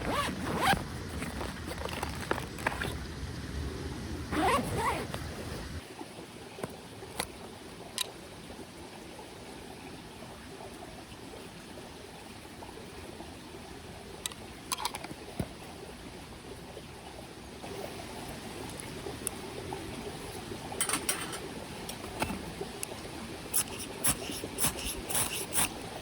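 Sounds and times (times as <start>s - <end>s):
creek trickling: 0.0s - 26.0s.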